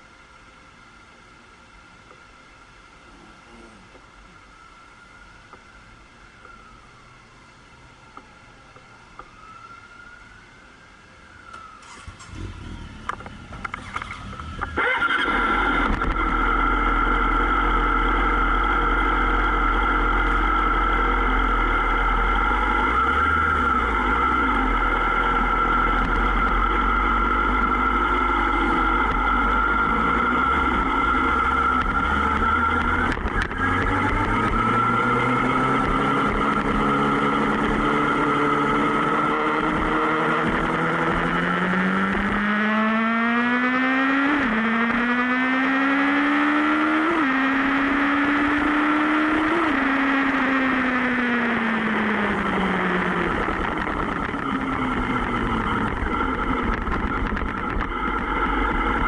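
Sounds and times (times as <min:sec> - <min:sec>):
motorcycle engine accelerating: 0:11.6 - 0:59.0.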